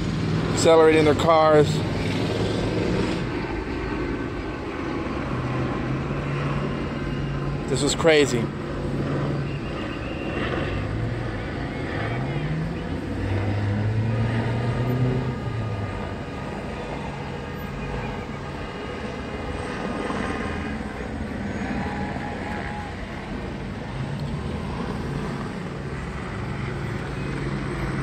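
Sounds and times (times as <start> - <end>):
car engine revving: 0.0 - 4.2, 5.0 - 28.0
low-flying helicopter drone: 0.0 - 28.0.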